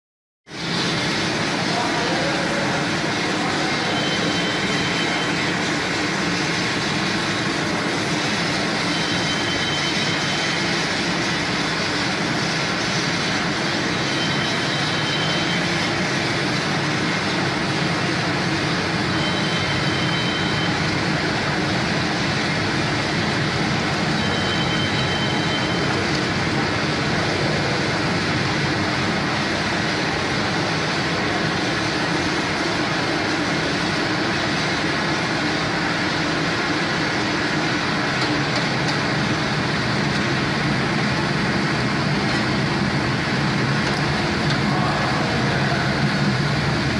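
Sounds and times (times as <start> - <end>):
frying machine hissing: 0.5 - 46.9.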